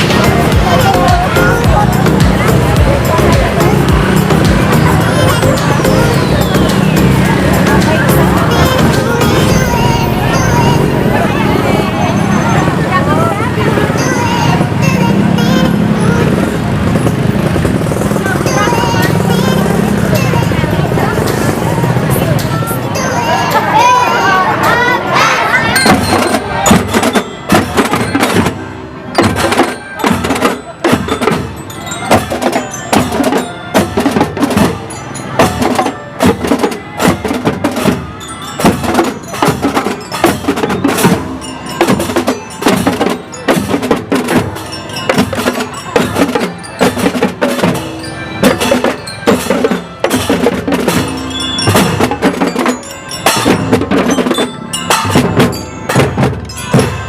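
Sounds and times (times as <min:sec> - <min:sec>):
bell lyres playing tune: 0:00.0 - 0:57.0
drums beating: 0:00.0 - 0:57.0.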